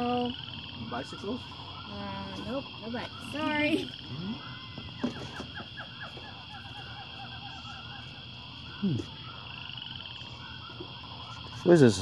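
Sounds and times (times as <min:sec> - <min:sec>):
birds chirping: 0:00.0 - 0:12.0
high insect drone: 0:00.0 - 0:12.0.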